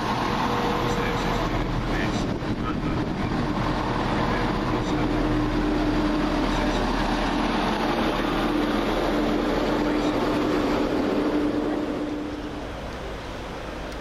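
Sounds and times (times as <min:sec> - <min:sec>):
diesel train engine drone: 0:00.0 - 0:14.0
wheel and rail rumble: 0:00.0 - 0:14.0.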